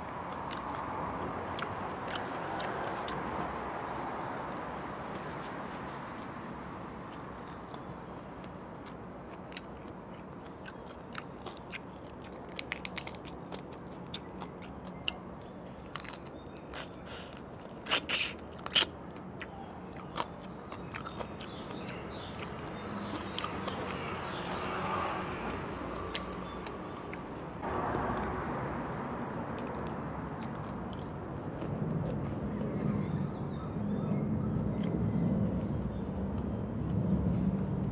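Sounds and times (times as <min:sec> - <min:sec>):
chewing with crunches: 0:00.0 - 0:06.3, 0:07.0 - 0:28.4, 0:29.3 - 0:33.7, 0:34.6 - 0:37.8.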